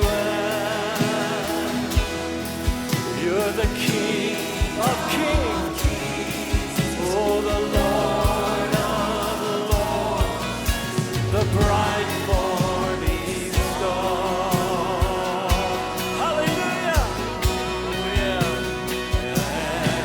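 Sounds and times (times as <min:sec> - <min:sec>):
person singing: 0:00.0 - 0:20.0
steady drum beat: 0:00.0 - 0:20.0
worship band music: 0:00.0 - 0:20.0.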